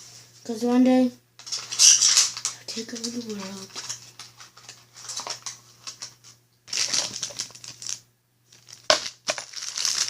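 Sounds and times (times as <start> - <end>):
packaging rustling and crinkling: 1.4 - 10.0.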